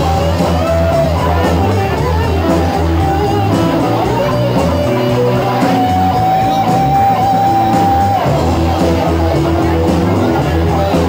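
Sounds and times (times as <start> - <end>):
bass guitar: 0.0 - 11.0
drum kit: 0.0 - 11.0
electric guitars: 0.0 - 11.0.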